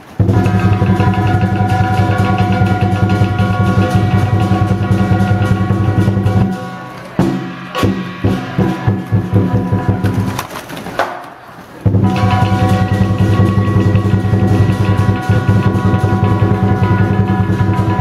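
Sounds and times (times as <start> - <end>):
cymbals ringing: 0.0 - 10.4, 11.9 - 18.0
gong ringing: 0.2 - 10.4, 11.9 - 18.0
lion drum roll and strikes: 0.2 - 11.2, 11.8 - 18.0.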